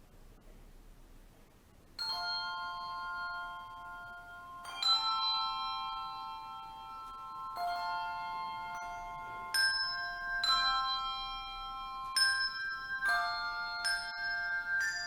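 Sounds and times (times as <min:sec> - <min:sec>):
handbells ringing chords: 0:02.0 - 0:15.0.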